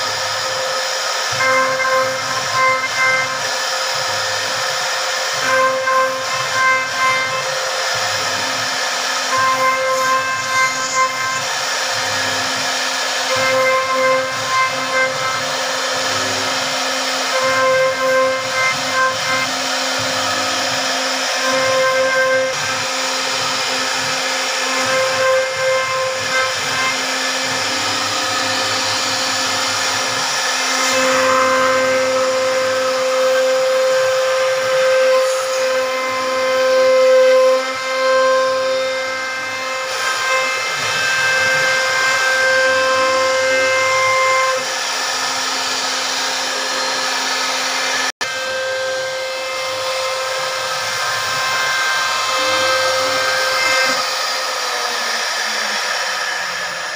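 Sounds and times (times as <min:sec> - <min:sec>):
hiss of wood cutting: 0:00.0 - 0:56.9
router spindle whining: 0:00.0 - 0:56.9.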